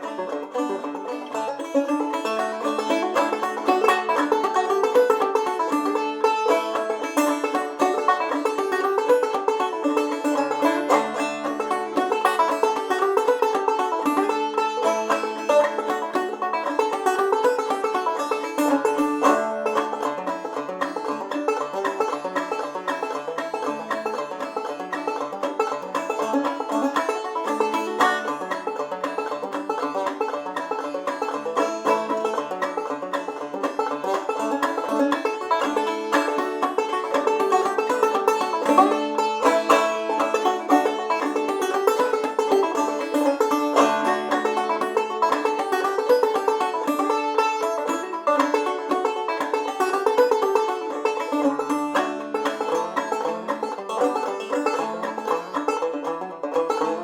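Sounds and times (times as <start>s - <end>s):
banjo playing old-time tune: 0.0s - 57.0s.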